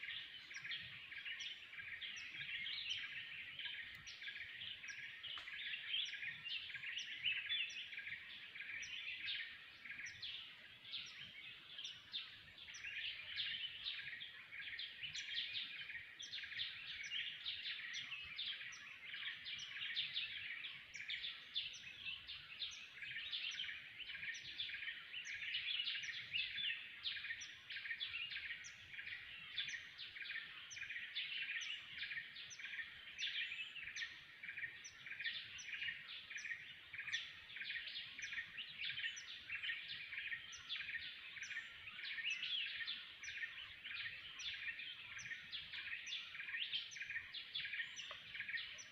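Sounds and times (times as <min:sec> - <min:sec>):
forest birds chirping: 0:00.0 - 0:48.9.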